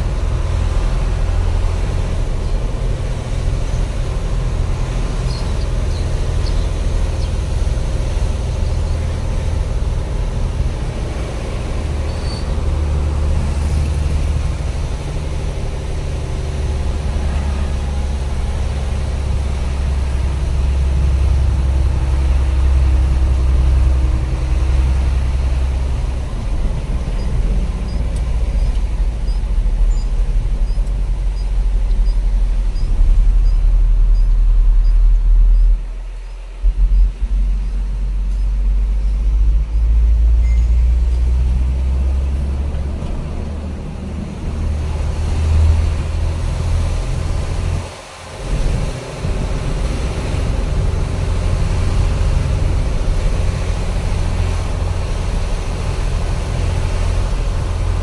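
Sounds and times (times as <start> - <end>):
truck engine and road noise: 0.0 - 58.0.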